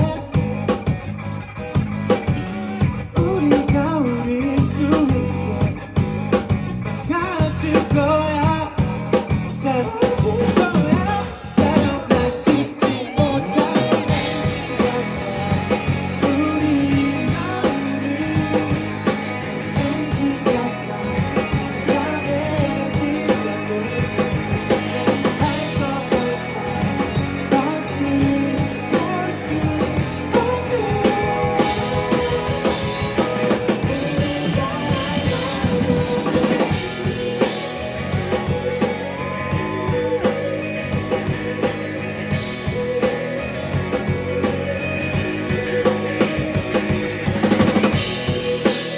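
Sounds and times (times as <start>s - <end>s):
guitar: 0.0s - 48.9s
live rock band: 0.0s - 48.9s
drum beat: 7.4s - 48.9s
person singing: 9.6s - 48.9s.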